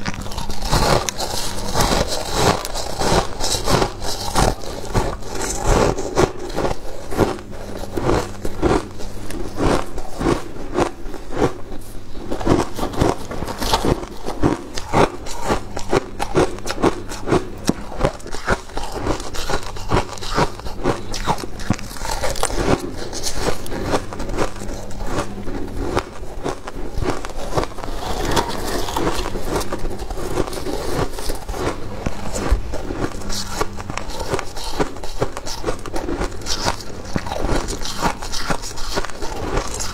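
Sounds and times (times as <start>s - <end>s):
frost crunching as chewed: 0.0s - 39.9s.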